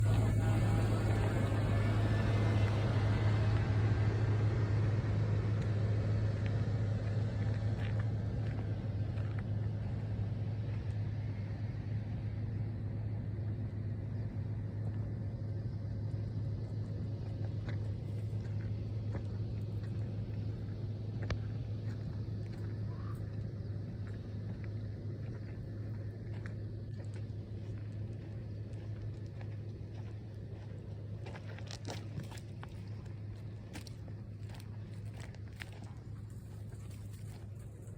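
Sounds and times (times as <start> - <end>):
rumbling background: 0.0 - 37.9
steady low hum: 0.0 - 37.9.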